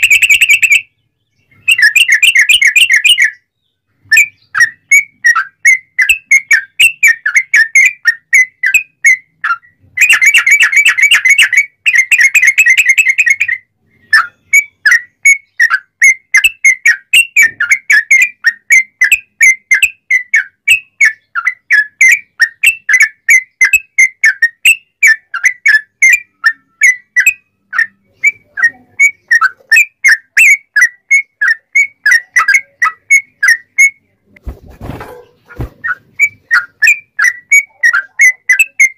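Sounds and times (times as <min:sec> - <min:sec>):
bird trills: 0:00.0 - 0:34.1, 0:34.8 - 0:38.9
bulbul whistled song: 0:00.0 - 0:34.2, 0:35.1 - 0:38.9.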